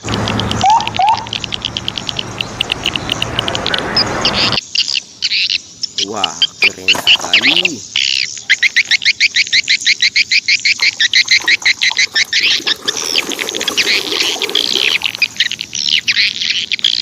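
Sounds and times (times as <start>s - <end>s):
bird chirping and trilling: 0.0s - 17.0s.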